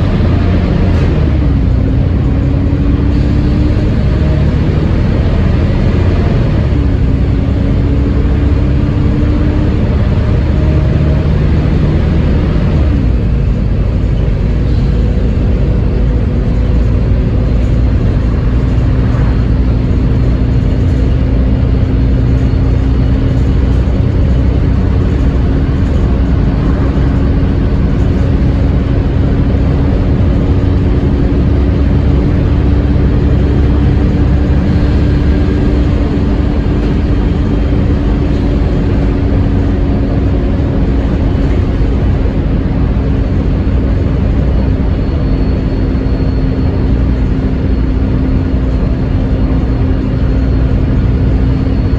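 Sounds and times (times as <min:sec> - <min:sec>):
bus engine rumble: 0:00.0 - 0:51.9
gearbox whine: 0:00.0 - 0:51.9.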